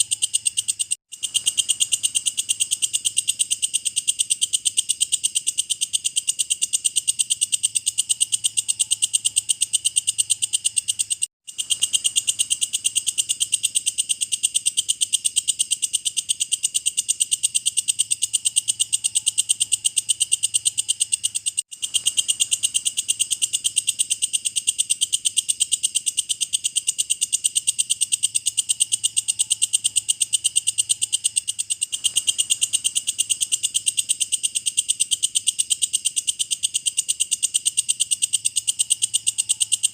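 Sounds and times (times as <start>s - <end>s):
bush cricket singing: 0.0s - 39.9s.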